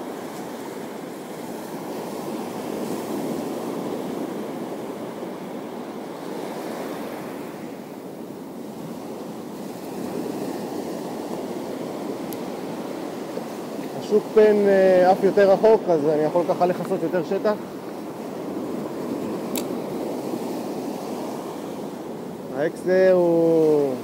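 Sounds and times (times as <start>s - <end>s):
sea waves washing on shore: 0.0s - 24.0s.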